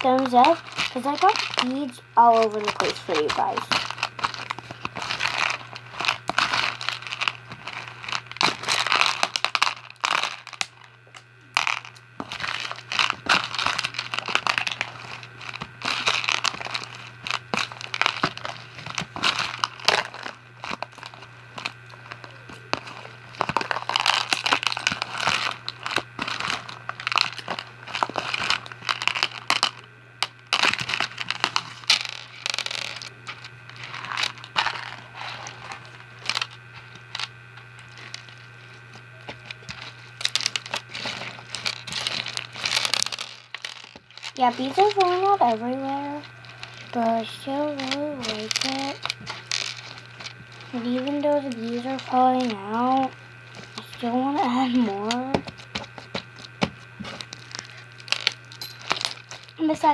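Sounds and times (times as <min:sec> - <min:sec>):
crunchy slime squishing: 0:00.0 - 0:59.9
faint low hum: 0:00.0 - 0:59.9.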